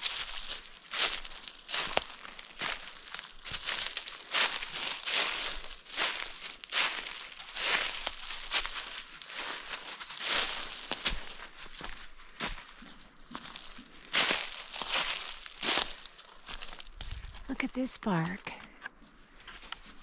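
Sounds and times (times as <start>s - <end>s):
footsteps crunching dry leaves: 0.0s - 18.3s.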